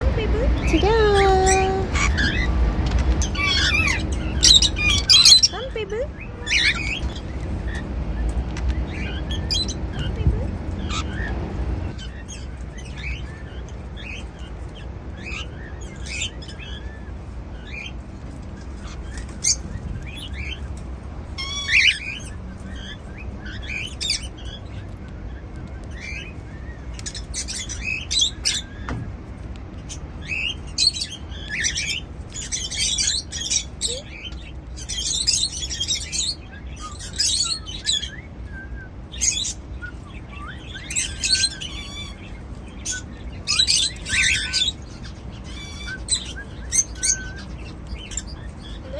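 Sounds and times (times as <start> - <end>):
cockatiels chirping: 0.0 - 18.0, 18.6 - 20.8, 21.4 - 29.0, 29.7 - 48.9.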